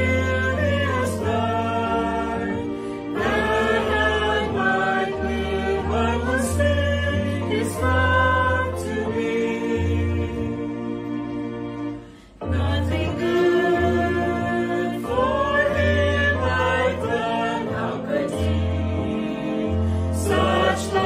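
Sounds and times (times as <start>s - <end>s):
group singing a hymn in harmony: 0.0s - 21.0s.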